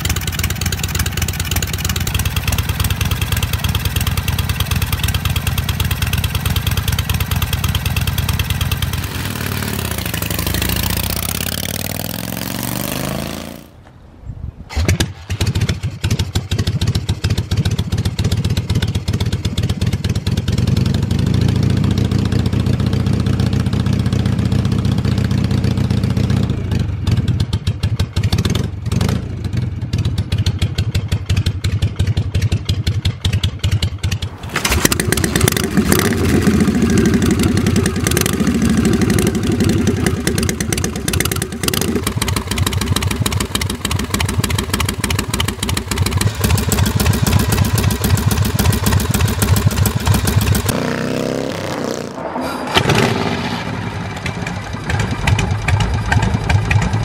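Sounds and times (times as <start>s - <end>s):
motorcycle kick-started and idling: 0.0s - 12.1s, 14.7s - 50.9s, 52.8s - 57.0s
motorcycle engine revving: 0.0s - 13.8s, 14.7s - 57.0s.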